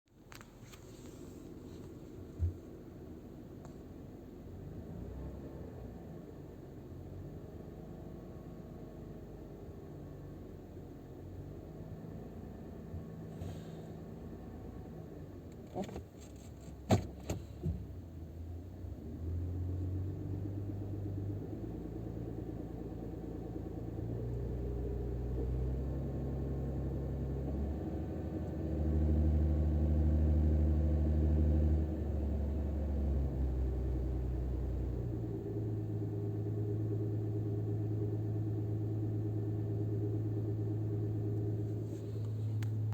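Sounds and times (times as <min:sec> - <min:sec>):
car engine running: 0:00.2 - 0:07.1, 0:12.1 - 0:42.9.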